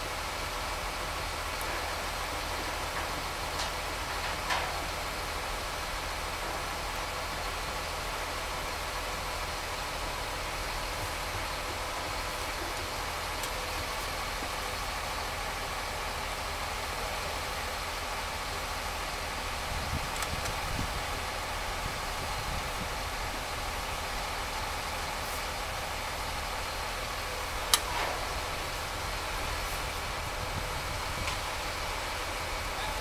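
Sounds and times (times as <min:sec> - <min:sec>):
heavy engine idling: 0:00.0 - 0:33.0.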